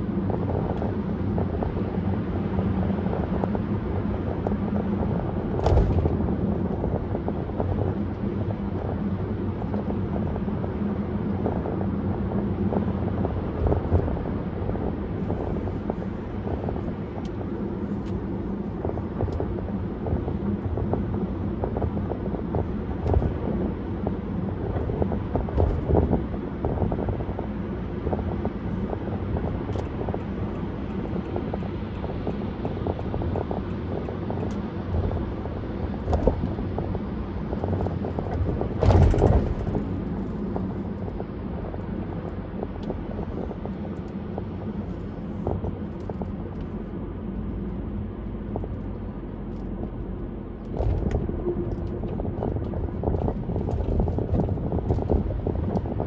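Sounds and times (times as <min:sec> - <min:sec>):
road rumble: 0:00.0 - 0:56.0
wind noise: 0:00.0 - 0:56.0.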